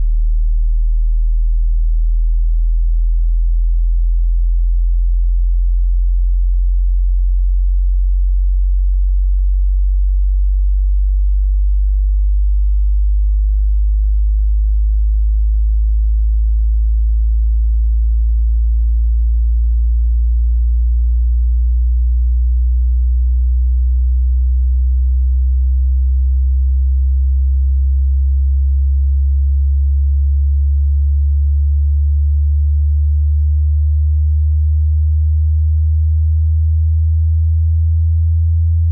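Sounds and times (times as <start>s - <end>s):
low sine tone rising: 0.0s - 38.9s.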